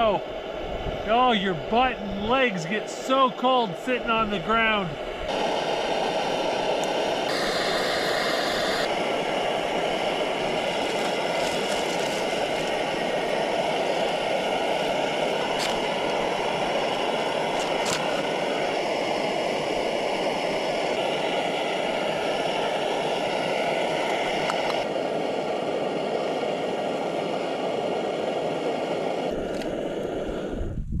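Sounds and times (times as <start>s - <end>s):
steady rushing noise: 0.0s - 31.0s.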